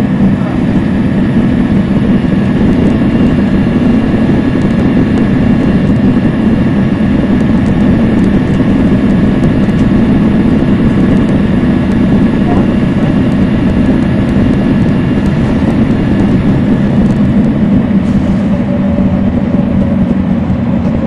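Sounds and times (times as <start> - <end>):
bus diesel engine droning: 0.0 - 21.0.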